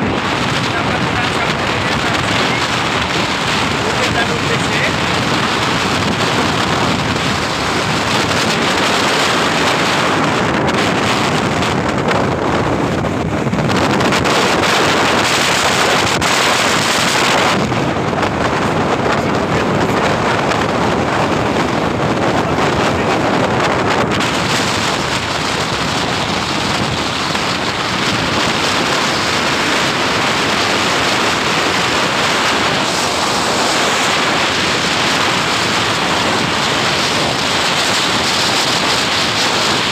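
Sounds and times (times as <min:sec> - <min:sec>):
tyre and road noise: 0:00.0 - 0:39.9
wind buffeting microphone: 0:00.0 - 0:39.9.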